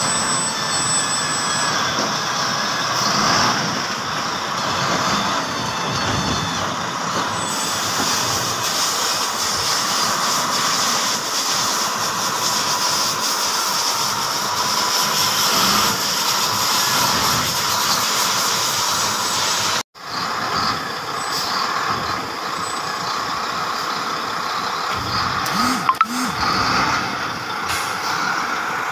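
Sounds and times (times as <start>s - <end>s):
wheel loader diesel engine running: 0.0s - 28.9s.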